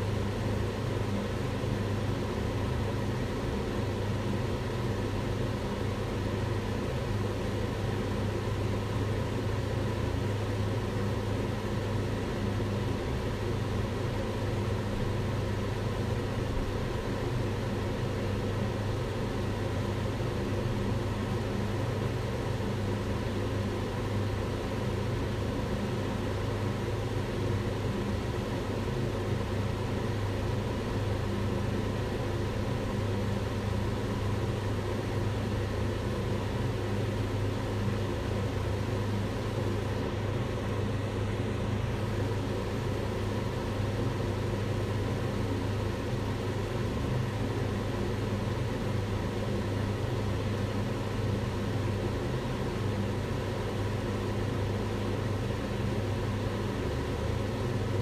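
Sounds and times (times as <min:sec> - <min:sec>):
range hood fan humming: 0:00.0 - 0:58.0.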